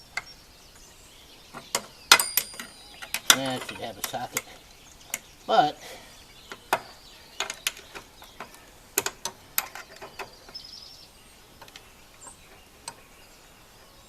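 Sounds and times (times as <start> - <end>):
bird chirping faintly: 0.0 - 14.0.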